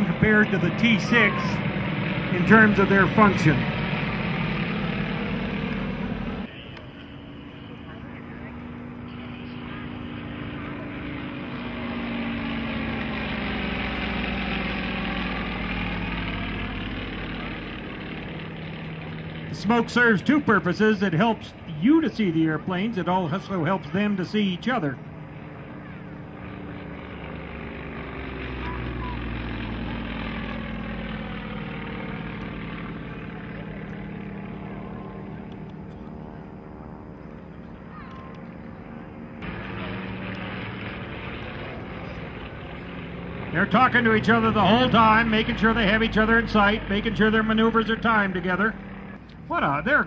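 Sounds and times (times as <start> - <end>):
propeller aircraft droning past: 0.0 - 50.0.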